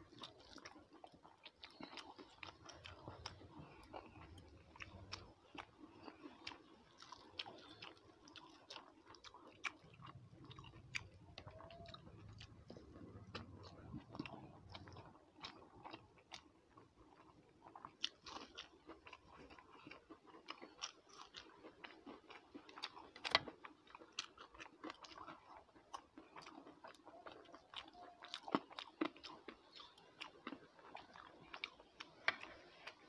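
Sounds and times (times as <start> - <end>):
person chewing: 0.0 - 33.0.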